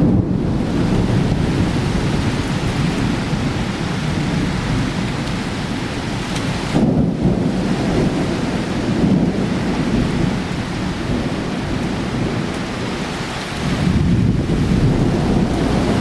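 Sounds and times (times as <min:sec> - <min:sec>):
deep rumbling wash: 0:00.0 - 0:16.0
heavy rain pouring: 0:00.0 - 0:16.0.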